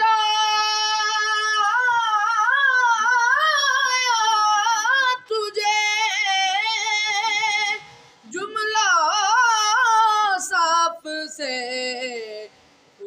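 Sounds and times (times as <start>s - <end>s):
boy singing unaccompanied: 0.0s - 12.5s.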